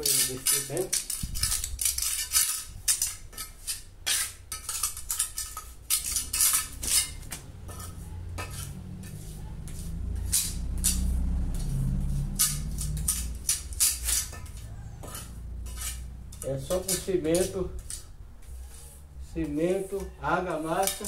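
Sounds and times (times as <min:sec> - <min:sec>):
trowel scraping wet cement: 0:00.0 - 0:21.0
low steady rumble: 0:00.9 - 0:19.5.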